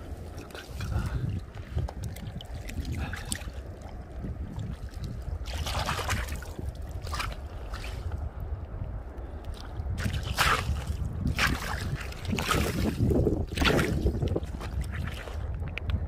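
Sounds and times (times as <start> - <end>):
water sloshing and splashing: 0.0 - 8.5, 9.4 - 15.8
wind rumbling on microphone: 0.0 - 16.0.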